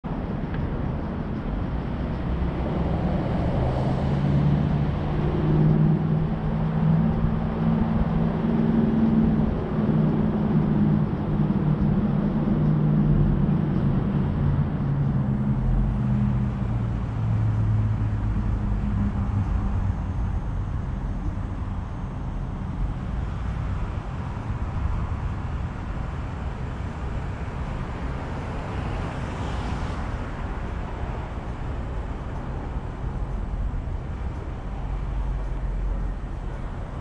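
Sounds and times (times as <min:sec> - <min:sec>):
road noise: 0:00.0 - 0:37.0
vehicle engine running: 0:00.0 - 0:37.0
wind noise: 0:00.0 - 0:37.0.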